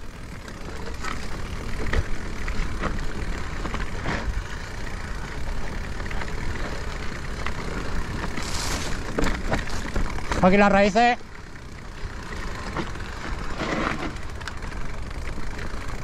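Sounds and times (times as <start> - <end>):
bike knocks and rattles: 0.0 - 16.0
low rumble of rolling and wind: 0.0 - 16.0.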